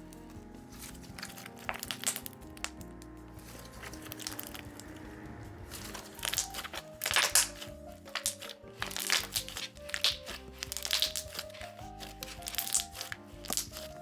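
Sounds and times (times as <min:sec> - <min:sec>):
slime crackling and popping: 0:00.0 - 0:14.0
soft background music: 0:00.0 - 0:14.0.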